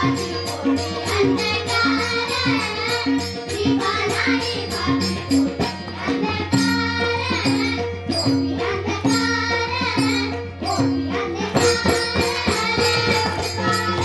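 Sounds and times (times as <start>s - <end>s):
percussion rattling: 0.0s - 14.0s.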